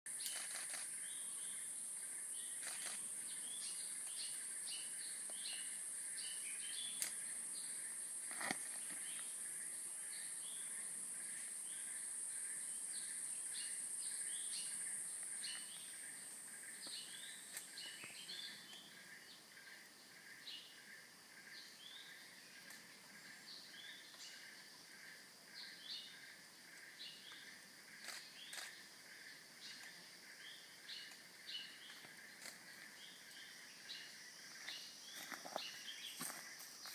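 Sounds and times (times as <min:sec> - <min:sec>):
soft insect hum: 0:00.1 - 0:36.9.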